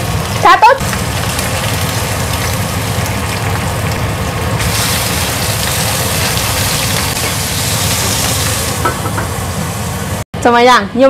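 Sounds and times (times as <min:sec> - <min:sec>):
fish sizzling in hot oil: 0:00.0 - 0:10.3.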